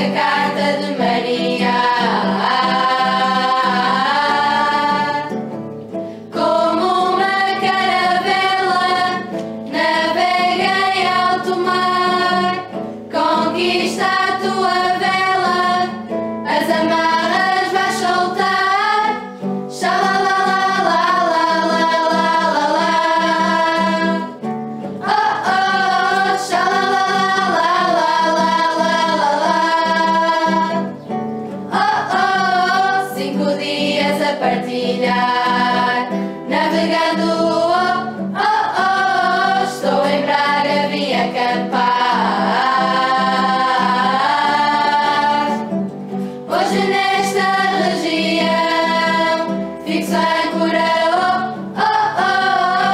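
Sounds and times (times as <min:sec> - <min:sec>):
women singing a hymn: 0:00.0 - 0:05.6, 0:06.2 - 0:52.9
instrumental backing: 0:00.0 - 0:52.9.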